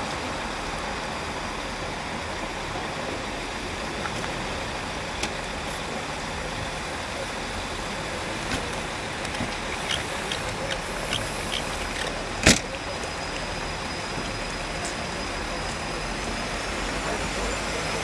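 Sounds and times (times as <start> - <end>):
train approaching with distant rumble: 0.0 - 18.0.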